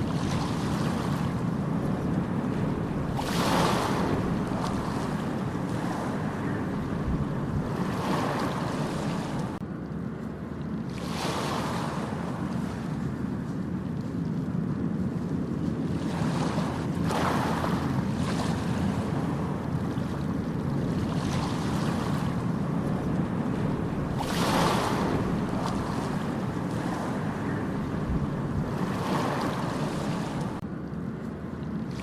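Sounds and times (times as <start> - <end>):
low rumble of surf: 0.0 - 32.0
waves breaking on a beach: 0.0 - 32.0
wind: 0.0 - 32.0.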